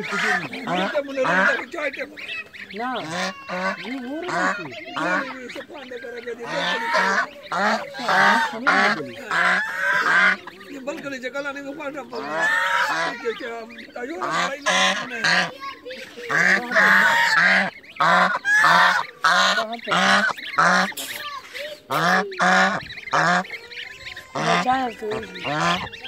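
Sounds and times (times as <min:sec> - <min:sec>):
geese honking: 0:00.0 - 0:26.0
goslings peeping: 0:00.0 - 0:26.0.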